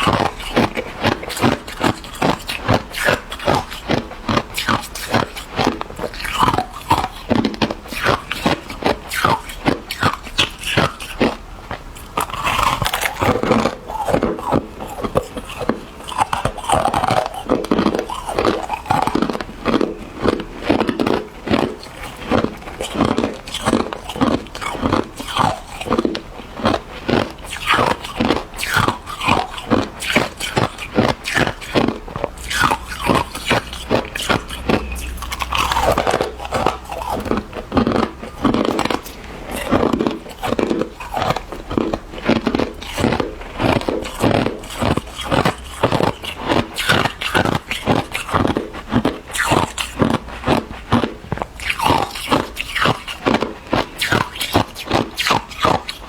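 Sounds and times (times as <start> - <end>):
ice crunching while chewed: 0.0 - 56.0.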